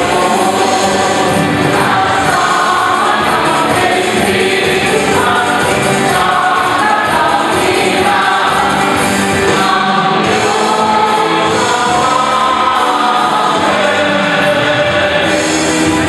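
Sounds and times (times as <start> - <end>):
church choir singing: 0.0 - 16.0.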